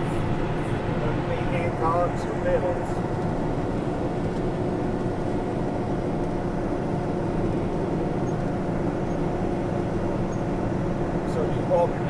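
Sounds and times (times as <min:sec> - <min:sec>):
tractor drone inside cab: 0:00.0 - 0:12.0.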